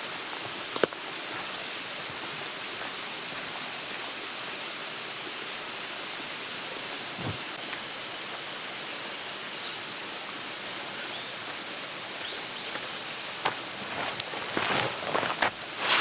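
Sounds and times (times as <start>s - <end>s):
rushing outdoor ambient noise: 0.0s - 16.0s.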